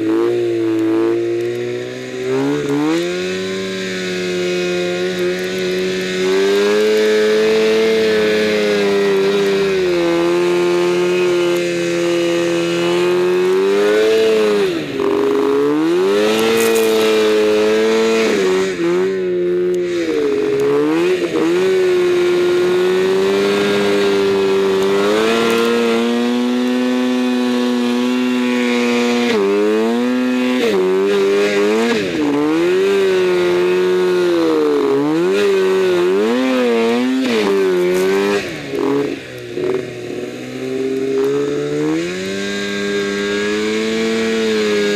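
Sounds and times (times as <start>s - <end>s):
snowmobile engine revving: 0.0s - 44.9s.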